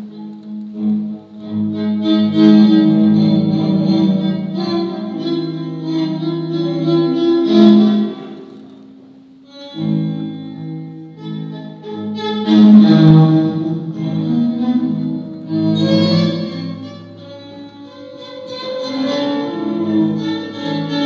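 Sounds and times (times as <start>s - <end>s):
guitar with long held notes: 0.0s - 21.0s.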